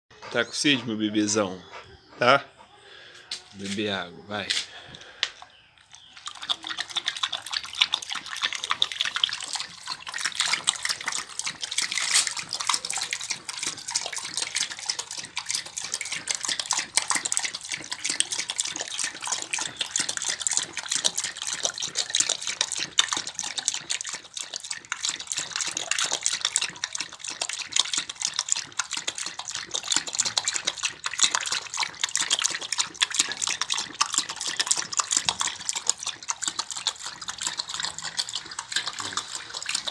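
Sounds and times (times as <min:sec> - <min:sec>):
dog lapping water: 0:05.9 - 0:39.9.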